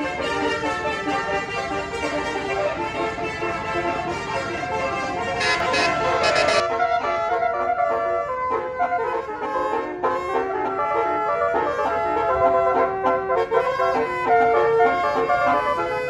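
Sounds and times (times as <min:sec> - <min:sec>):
multi-tone bus horns playing a tune: 0:00.0 - 0:16.0.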